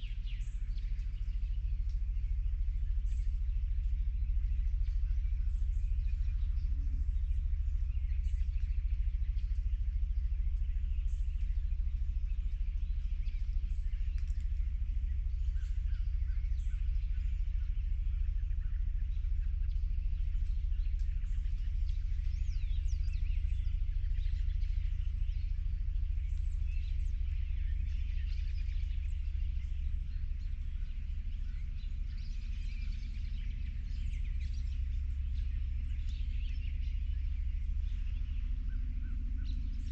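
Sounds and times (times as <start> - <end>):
songbirds chirping and singing: 0.0 - 39.9
steady low rumble: 0.0 - 39.9.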